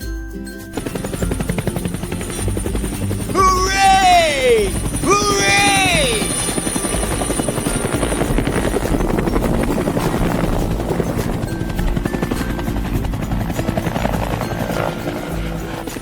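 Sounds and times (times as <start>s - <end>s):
light background music: 0.0s - 16.0s
cartoon helicopter rotor chopping: 0.7s - 16.0s.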